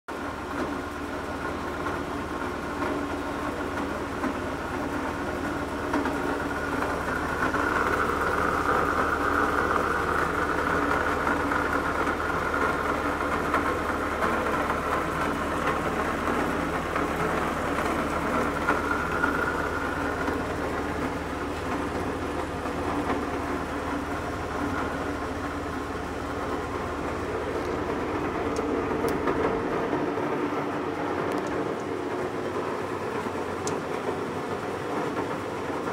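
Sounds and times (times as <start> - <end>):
low motor hum: 0.1 - 35.9
lathe gears whining: 1.7 - 35.5.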